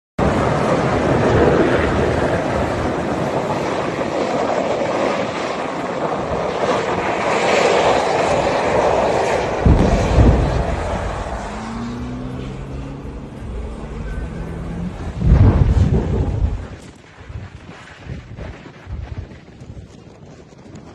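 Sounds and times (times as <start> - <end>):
loud steady rushing noise: 0.2 - 19.0.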